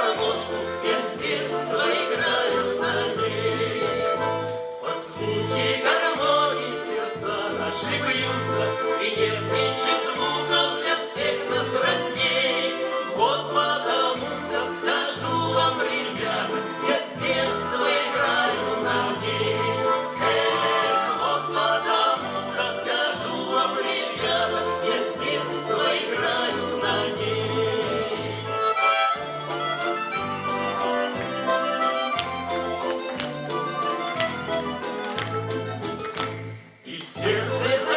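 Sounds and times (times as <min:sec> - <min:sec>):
folk ensemble singing: 0:00.0 - 0:35.9, 0:36.8 - 0:37.9
button accordion folk music: 0:00.0 - 0:37.9.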